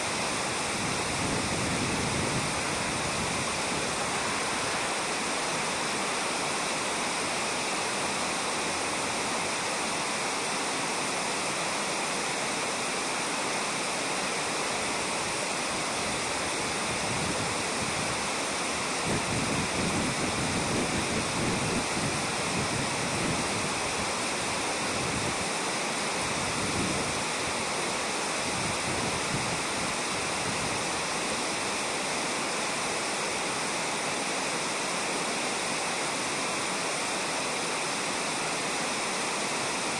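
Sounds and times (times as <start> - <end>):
river running over stones: 0.0 - 39.9.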